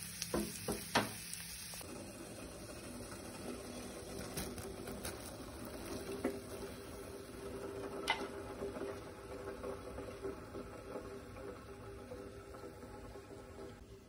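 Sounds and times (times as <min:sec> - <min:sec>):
broth boiling and bubbling: 0:00.0 - 0:14.0.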